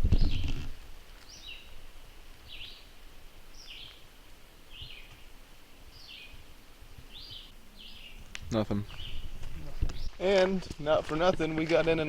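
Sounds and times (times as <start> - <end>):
songbird chirping: 0.1 - 12.0.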